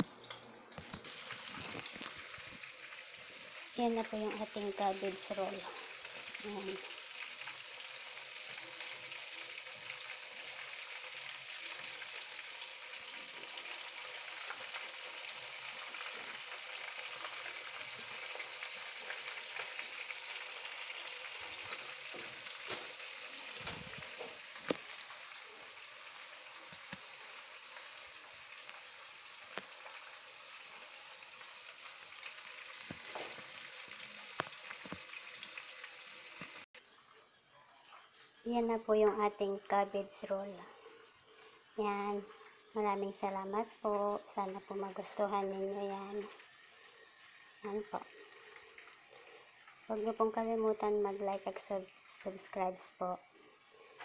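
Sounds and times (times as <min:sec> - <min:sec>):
deep-frying sizzle: 0:00.0 - 0:54.0.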